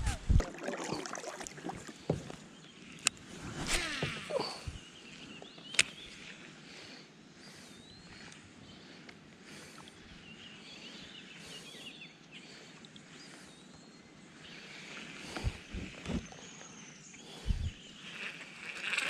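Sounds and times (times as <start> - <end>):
river ambience: 0.0 - 19.0.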